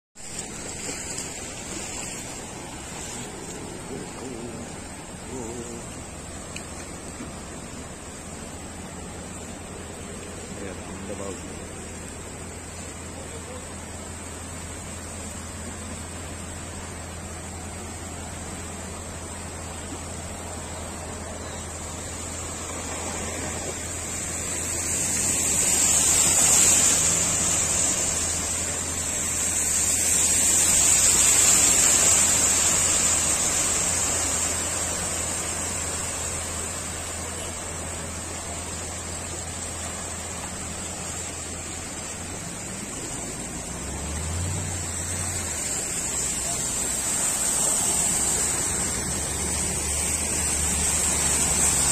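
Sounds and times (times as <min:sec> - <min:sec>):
floodwater rushing and splashing: 0:00.0 - 0:51.9
low engine hum: 0:00.0 - 0:51.9.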